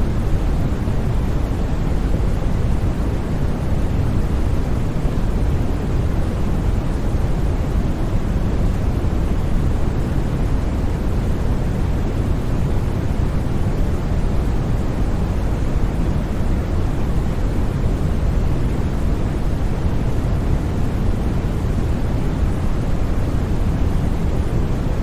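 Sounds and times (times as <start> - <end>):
deep white noise: 0.0 - 25.0.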